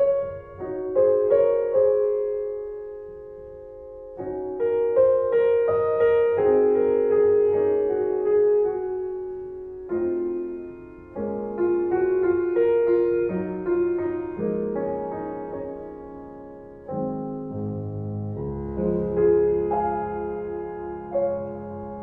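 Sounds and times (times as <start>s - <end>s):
slow solo piano melody: 0.0s - 22.0s.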